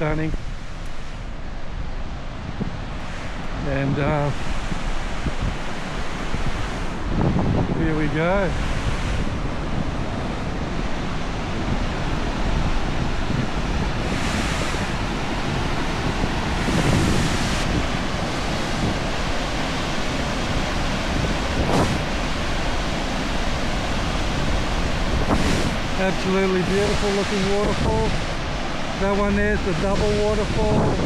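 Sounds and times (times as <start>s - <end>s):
waterfall rushing: 0.0s - 31.0s
wind noise on microphone: 0.0s - 31.0s.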